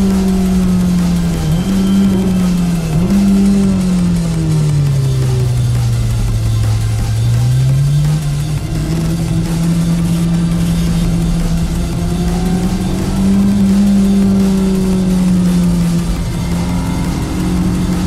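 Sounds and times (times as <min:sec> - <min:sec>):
car engine revving under load: 0:00.0 - 0:18.0.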